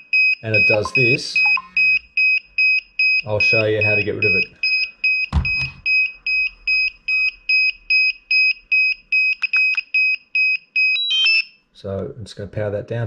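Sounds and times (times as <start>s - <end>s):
remote controller beeping: 0.2s - 11.5s.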